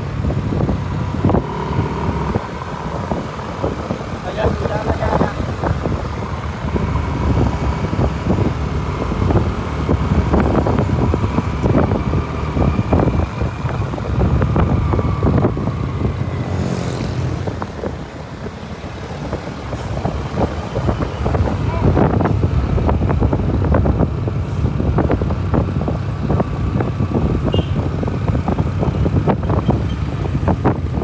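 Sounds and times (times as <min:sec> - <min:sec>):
road vehicle noise: 0:00.0 - 0:31.0
wind buffeting microphone: 0:00.0 - 0:31.0.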